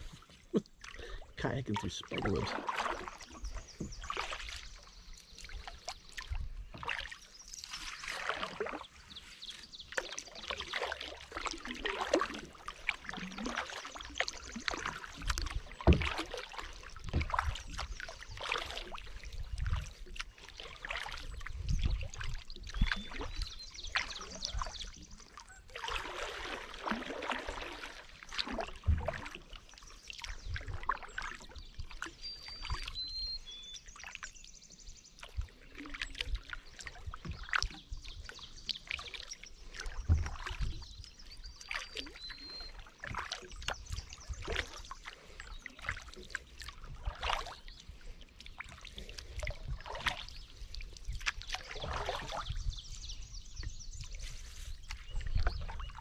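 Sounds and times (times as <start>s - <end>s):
paddle splashing water: 0.0s - 56.0s.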